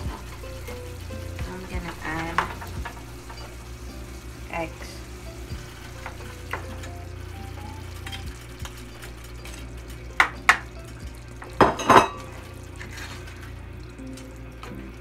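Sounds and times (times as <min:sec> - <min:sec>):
spatula stirring in frying pan: 0:00.0 - 0:13.7.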